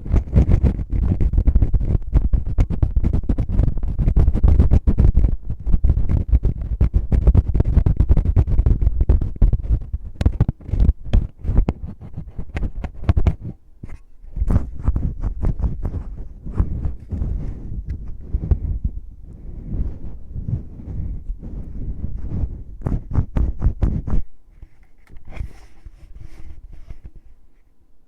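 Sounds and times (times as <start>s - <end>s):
fingers rubbing on microphone: 0.0s - 27.7s.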